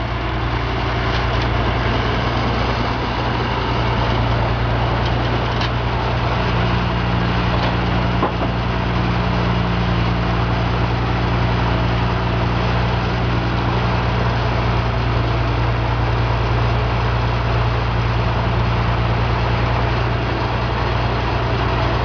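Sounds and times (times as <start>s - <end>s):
sawmill engine running steadily: 0.0s - 22.0s.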